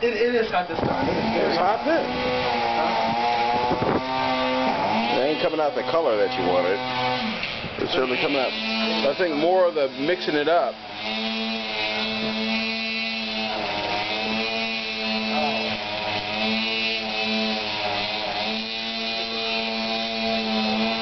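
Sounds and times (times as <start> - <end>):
steady machine drone: 0.0 - 21.0.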